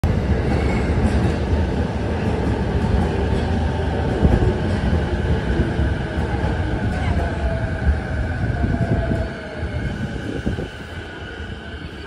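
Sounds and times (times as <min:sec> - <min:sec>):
electric train low rumble: 0:00.0 - 0:12.0.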